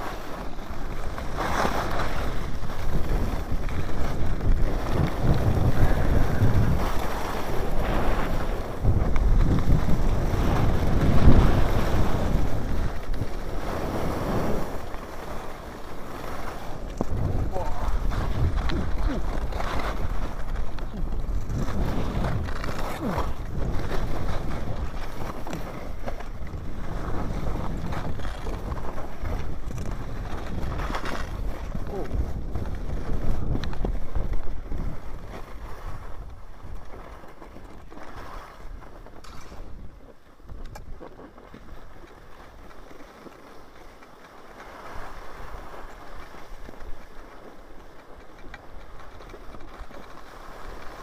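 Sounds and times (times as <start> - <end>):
wind buffeting microphone: 0.0 - 42.7
bike riding rumble: 0.0 - 51.0.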